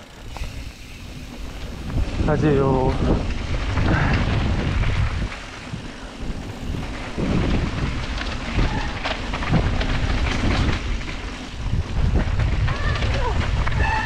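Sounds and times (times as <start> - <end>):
bike rattling over trail: 0.0 - 14.0
wind buffeting microphone: 0.1 - 14.0.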